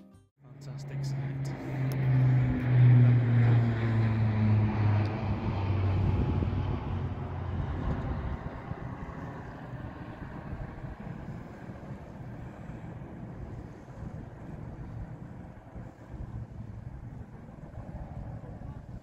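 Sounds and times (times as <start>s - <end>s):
plane engine drone passing overhead: 0.4s - 19.0s.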